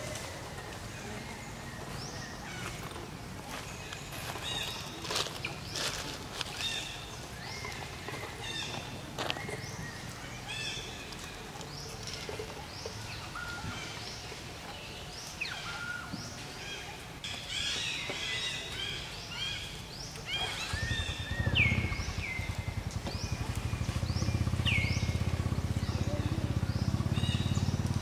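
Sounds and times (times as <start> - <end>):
wild birds chirping and whistling: 0.0 - 28.0.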